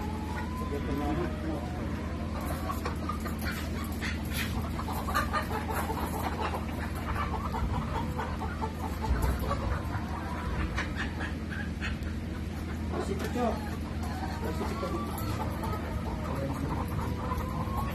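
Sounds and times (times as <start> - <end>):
hens clucking: 0.0 - 17.9.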